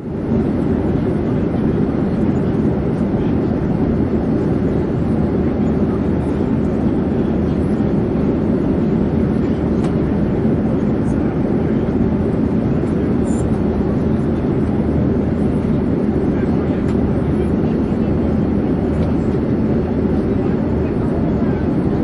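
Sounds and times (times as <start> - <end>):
airplane in flight: 0.0 - 22.0.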